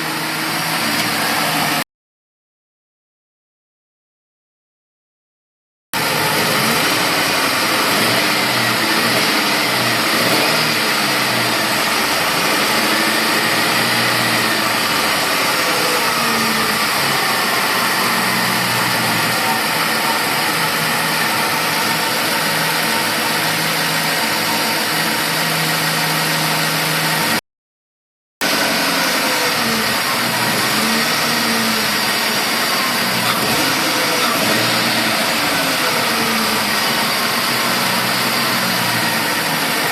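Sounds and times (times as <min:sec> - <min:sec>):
engine running: 0:00.0 - 0:01.8, 0:06.0 - 0:27.4, 0:28.4 - 0:39.9.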